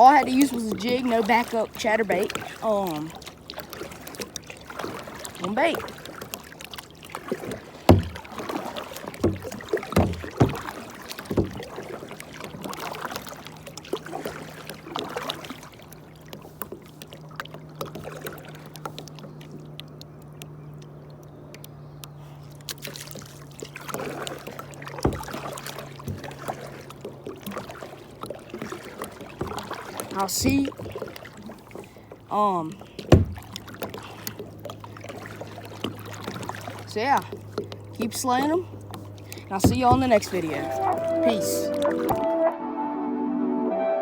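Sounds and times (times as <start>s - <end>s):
paddle knocking against hull: 0.0s - 20.9s, 22.6s - 42.4s
paddle splashing water: 0.0s - 42.6s.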